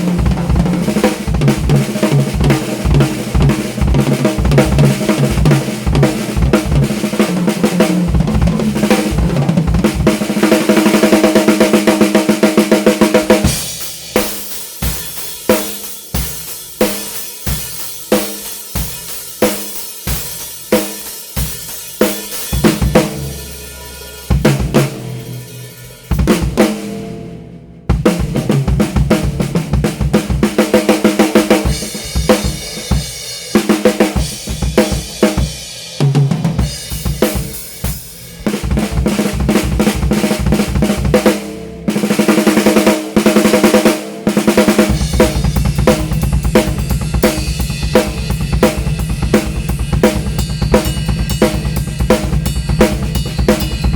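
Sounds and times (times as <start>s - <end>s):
drum kit playing: 0.0s - 53.9s.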